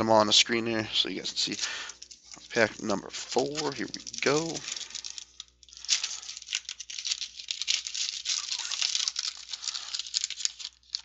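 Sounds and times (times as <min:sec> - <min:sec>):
wrapper tearing and crinkling: 0:01.4 - 0:11.0.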